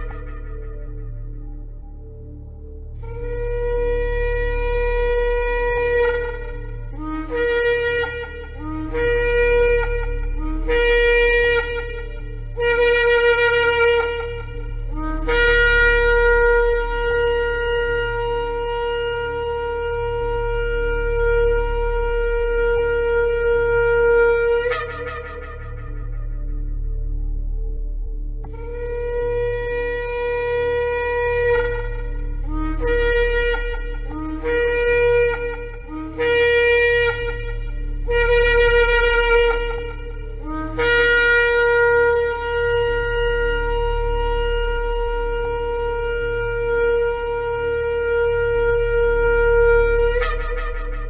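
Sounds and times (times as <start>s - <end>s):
ram's horn blasts: 0.0s - 51.0s.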